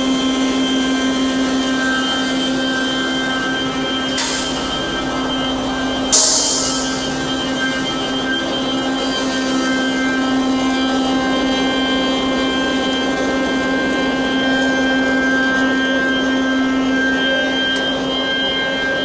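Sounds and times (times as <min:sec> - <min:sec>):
crusher machinery hum and whine: 0:00.0 - 0:19.0.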